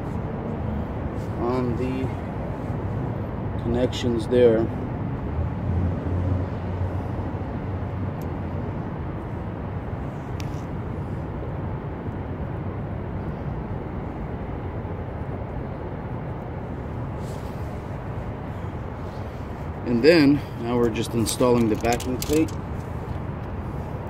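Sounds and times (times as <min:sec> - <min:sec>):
distant vehicle rumble: 0:00.0 - 0:24.0.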